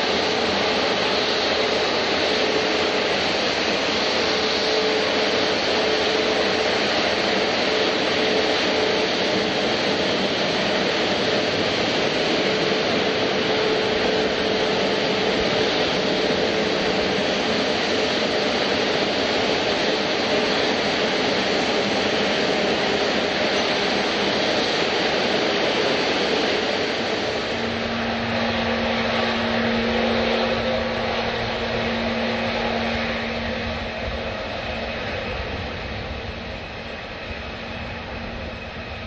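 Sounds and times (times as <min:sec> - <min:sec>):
jet engine rushing: 0:00.0 - 0:39.0.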